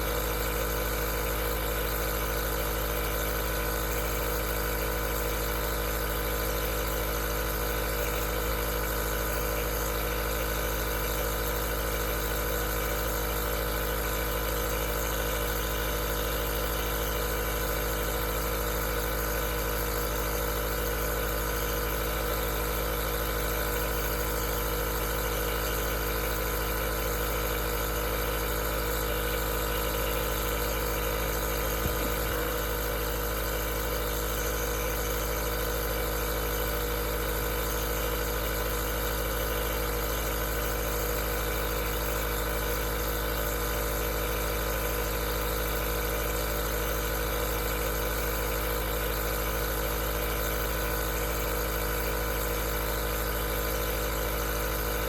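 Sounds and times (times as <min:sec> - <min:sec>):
nebulizer compressor humming: 0:00.0 - 0:55.0.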